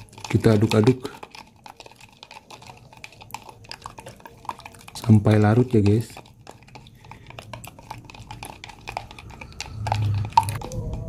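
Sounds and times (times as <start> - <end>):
spatula scraping plastic jug: 0.0 - 11.0.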